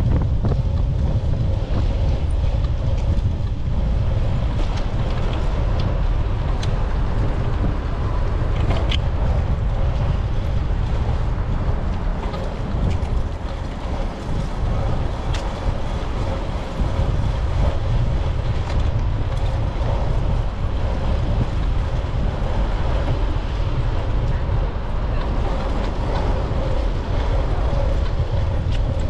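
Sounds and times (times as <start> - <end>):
bicycle tyre and road noise: 0.0 - 29.0
wind rushing over microphone: 0.0 - 29.0.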